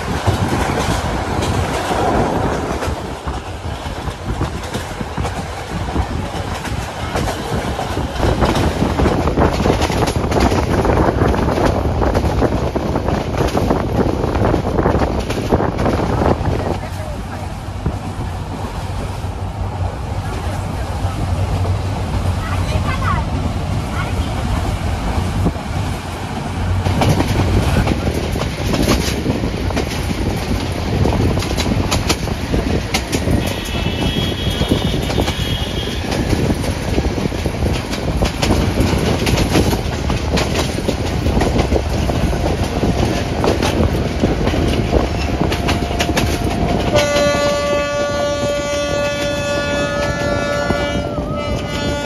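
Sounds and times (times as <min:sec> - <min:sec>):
train wheels rushing on rails: 0:00.0 - 0:52.0.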